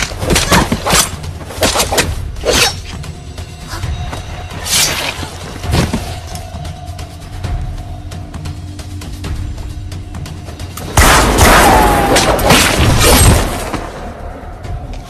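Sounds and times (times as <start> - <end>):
soundtrack music: 0.0 - 15.0.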